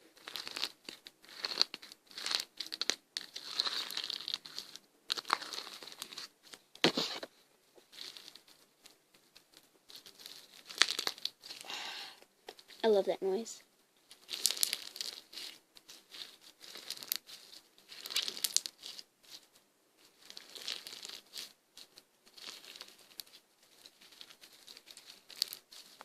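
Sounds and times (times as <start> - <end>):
slime crackling and popping: 0.1 - 12.8, 14.0 - 26.0.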